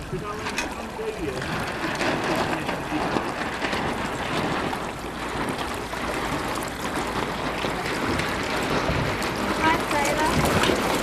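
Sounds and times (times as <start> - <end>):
water lapping: 0.0 - 11.0
wind on microphone: 0.0 - 11.0.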